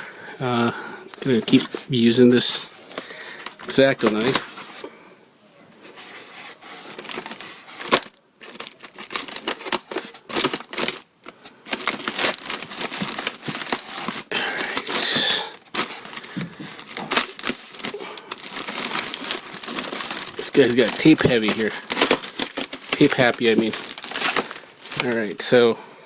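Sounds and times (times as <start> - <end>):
packing tape tearing: 2.9 - 4.8, 6.0 - 25.3.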